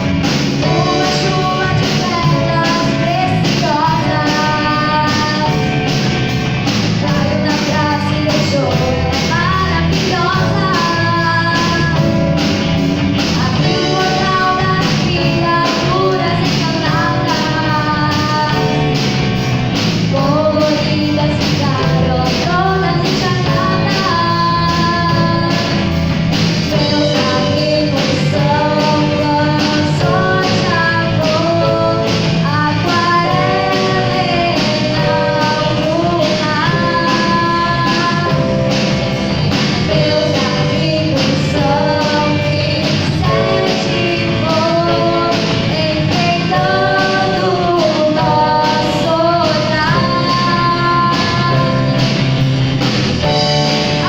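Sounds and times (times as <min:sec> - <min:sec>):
person singing: 0:00.0 - 0:19.4, 0:20.1 - 0:52.4
guitar: 0:00.0 - 0:54.0
steady drum beat: 0:00.0 - 0:54.0.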